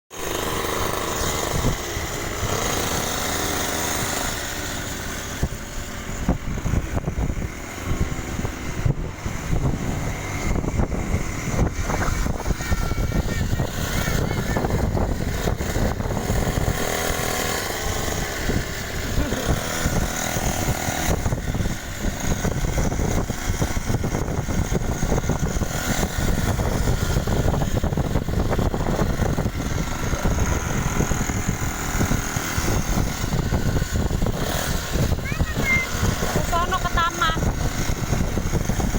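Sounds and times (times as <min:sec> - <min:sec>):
motocross bike engine revving: 0:00.1 - 0:38.9.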